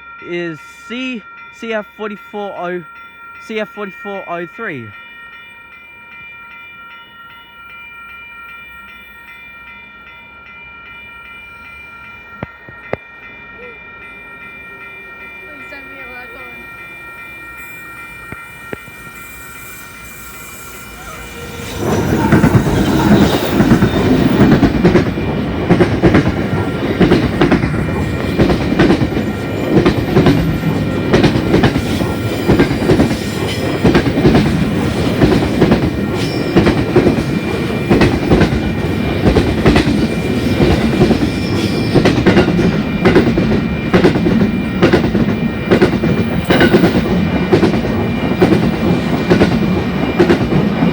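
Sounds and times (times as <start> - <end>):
freight train passing: 0.0 - 50.9.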